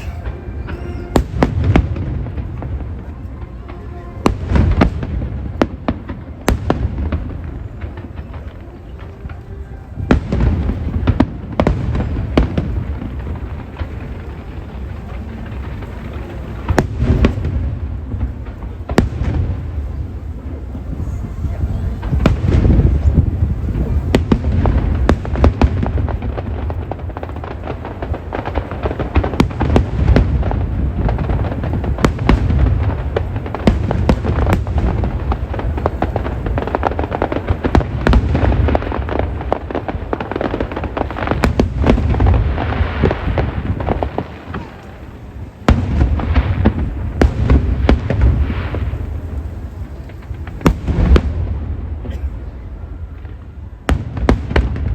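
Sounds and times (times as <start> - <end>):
fireworks booming: 0.0 - 54.9
fireworks cracking: 0.0 - 54.9.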